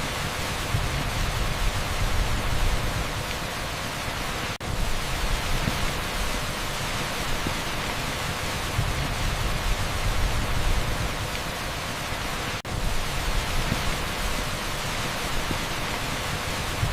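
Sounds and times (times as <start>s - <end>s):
torrential rain on asphalt: 0.0s - 16.9s.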